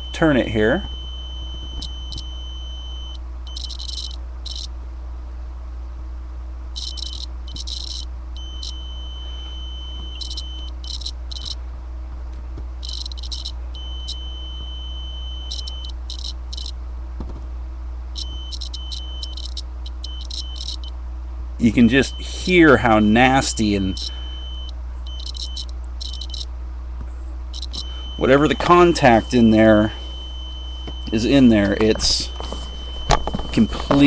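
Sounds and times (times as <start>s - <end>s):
continuity tester beeping: 0.0s - 4.7s, 6.8s - 11.6s, 12.8s - 16.8s, 18.1s - 21.0s, 21.7s - 26.5s, 27.5s - 34.0s.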